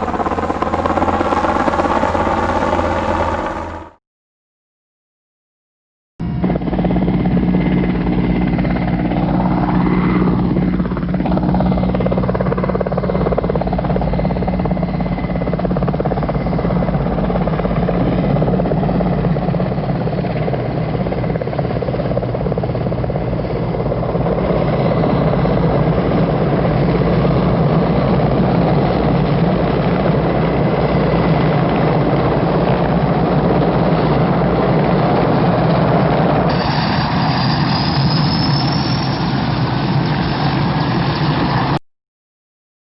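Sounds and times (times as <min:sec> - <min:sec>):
helicopter rotor and engine hum: 0:00.0 - 0:04.0, 0:06.2 - 0:41.8.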